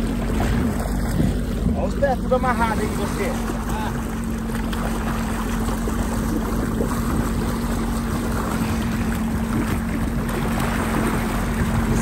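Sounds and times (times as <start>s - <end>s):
jet ski engine running: 0.0s - 12.0s
rushing water: 0.0s - 12.0s.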